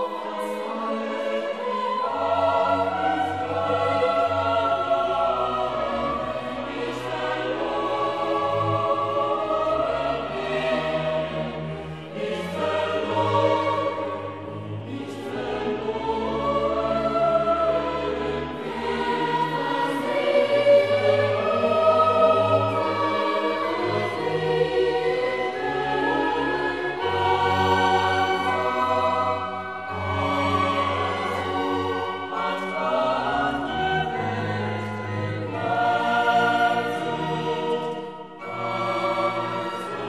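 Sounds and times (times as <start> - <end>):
choir singing: 0.0 - 40.0
instrumental accompaniment: 0.0 - 40.0.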